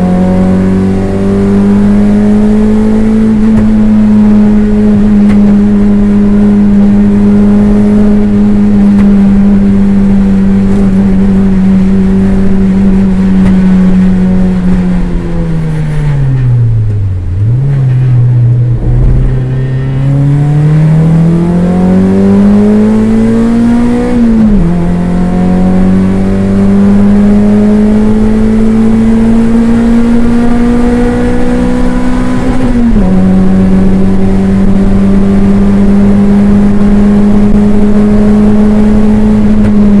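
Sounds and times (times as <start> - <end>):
race car engine at high revs: 0.0 - 40.0.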